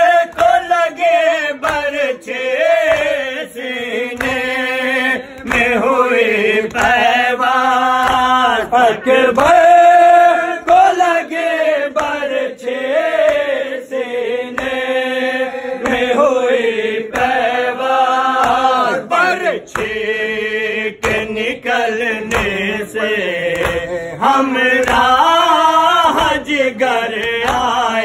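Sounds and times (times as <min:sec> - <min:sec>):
hands slapping chests: 0:00.0 - 0:13.7, 0:14.4 - 0:28.0
men chanting a lament: 0:00.0 - 0:28.0.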